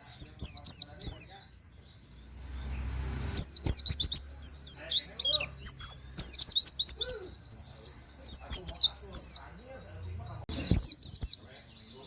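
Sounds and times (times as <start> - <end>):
bird singing whistled notes: 0.0 - 9.5, 10.1 - 12.0.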